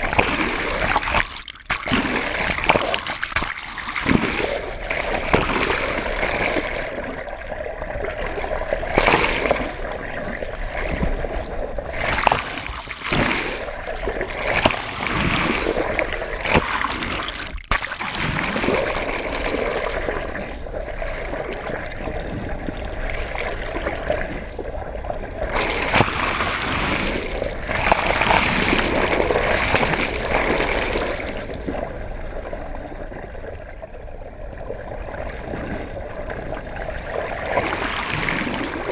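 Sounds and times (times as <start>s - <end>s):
water sloshing and bubbling: 0.0s - 38.9s.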